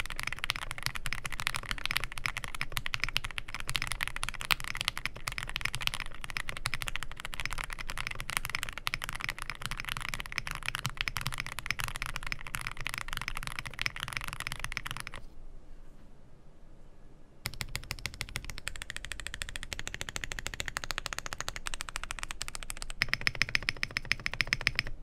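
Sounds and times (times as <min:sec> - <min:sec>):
mechanical keyboard typing: 0:00.0 - 0:15.2, 0:17.4 - 0:25.0.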